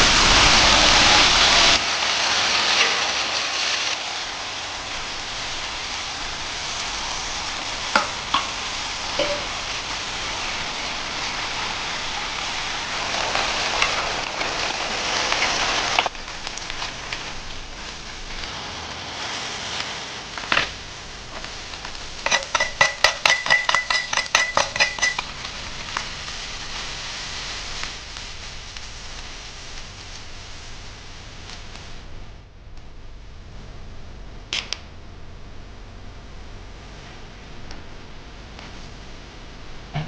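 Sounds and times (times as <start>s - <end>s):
food sizzling in hot oil: 0.0s - 32.1s.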